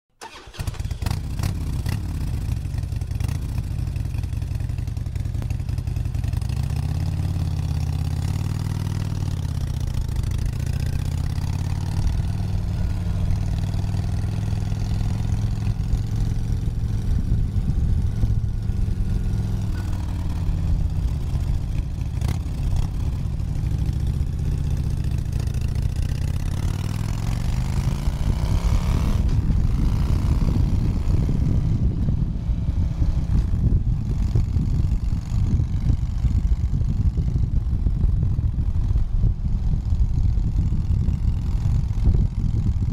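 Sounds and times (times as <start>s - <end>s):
motorcycle engine revving: 0.2s - 42.9s.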